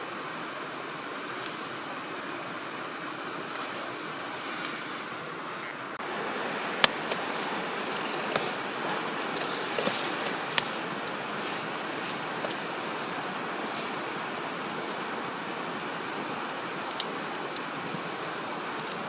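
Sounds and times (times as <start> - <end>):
fire crackles and pops: 0.0 - 5.3, 6.0 - 19.0
wood fire hissing: 0.0 - 19.0.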